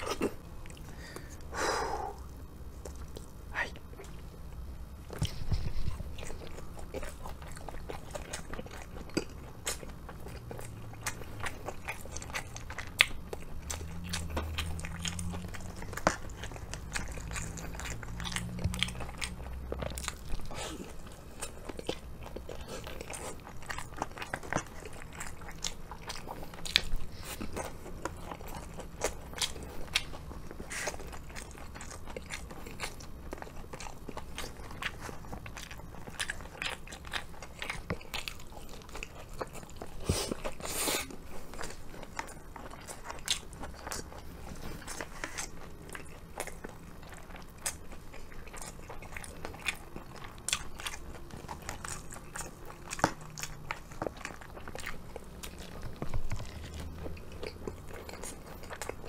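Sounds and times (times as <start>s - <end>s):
chewing and crunching: 0.0s - 59.0s
crackles of crispy batter: 4.2s - 59.0s.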